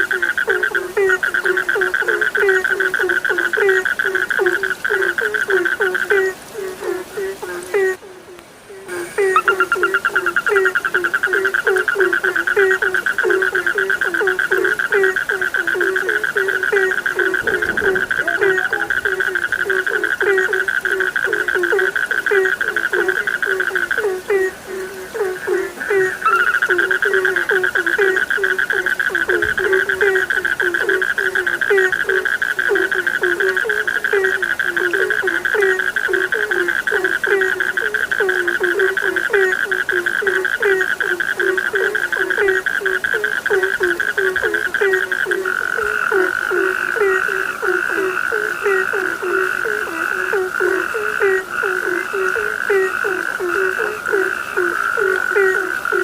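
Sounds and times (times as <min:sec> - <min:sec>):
frogs croaking: 0:00.0 - 0:56.0.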